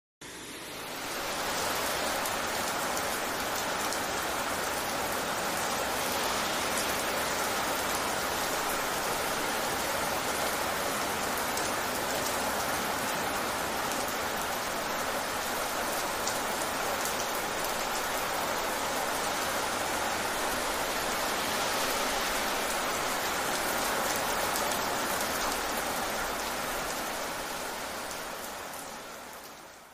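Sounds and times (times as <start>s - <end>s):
steady rain falling: 0.2s - 29.9s.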